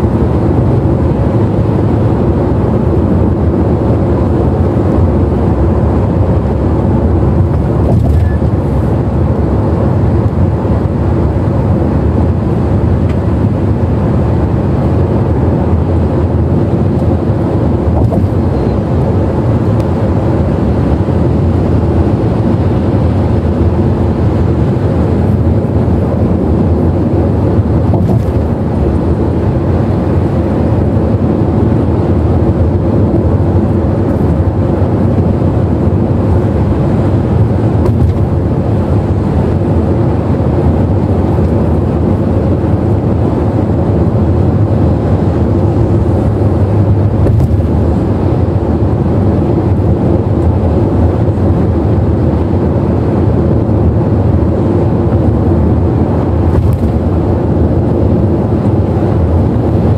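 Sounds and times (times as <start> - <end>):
car cabin road and engine drone: 0.0 - 59.9.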